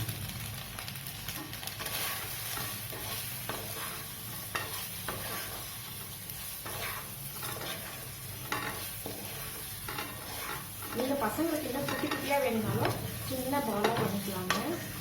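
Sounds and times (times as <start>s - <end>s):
food sizzling in oil: 0.0s - 15.0s
spatula strokes against pan: 1.3s - 15.0s.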